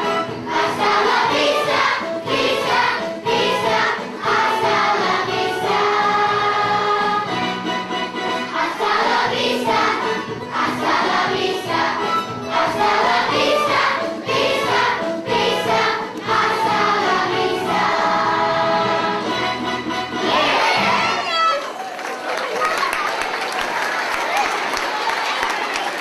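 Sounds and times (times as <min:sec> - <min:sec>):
children's chorus singing: 0:00.0 - 0:21.3
musical accompaniment: 0:00.0 - 0:21.4.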